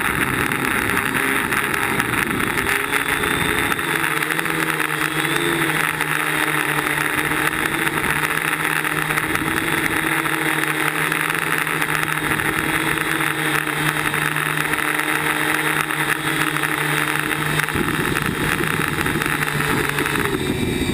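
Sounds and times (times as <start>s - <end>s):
drone propellers whirring: 0.0s - 20.9s
steady hum: 0.0s - 20.9s.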